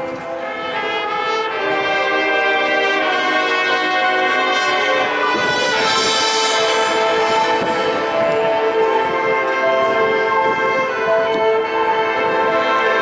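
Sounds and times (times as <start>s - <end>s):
brass band sustained chords: 0.0s - 13.0s.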